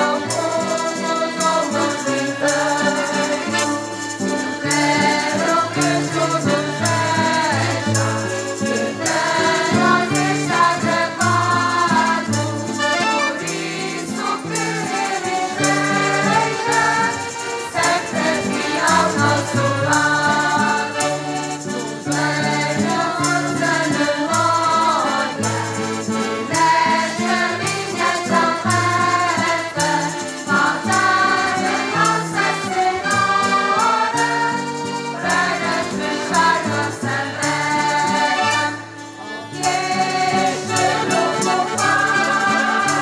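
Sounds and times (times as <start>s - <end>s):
accordions holding chords: 0.0s - 43.0s
group singing folk song: 0.0s - 43.0s
strummed acoustic guitar: 0.0s - 43.0s.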